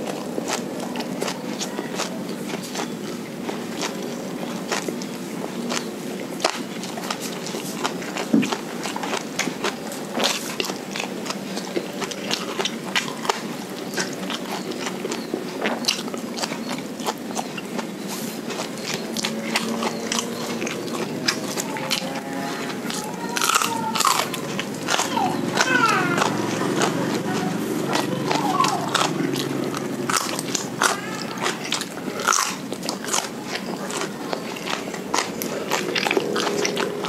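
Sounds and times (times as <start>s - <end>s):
chewing food: 0.0s - 37.0s
mouth clicks: 0.0s - 37.0s.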